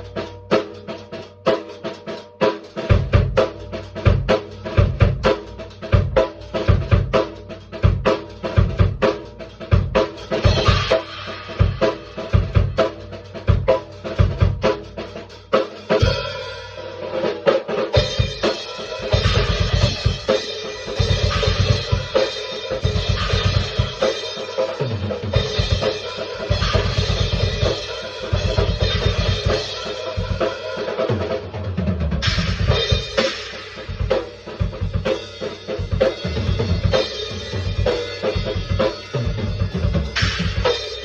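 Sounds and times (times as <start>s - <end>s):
drum kit beat: 0.0s - 41.0s.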